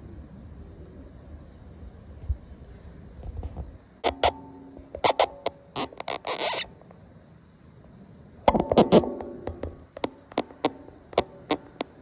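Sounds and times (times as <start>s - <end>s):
rustle: 0.0s - 12.0s.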